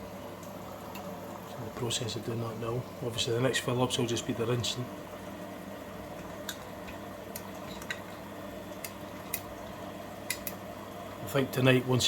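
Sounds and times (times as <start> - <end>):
washing machine filling with water: 0.0 - 12.0.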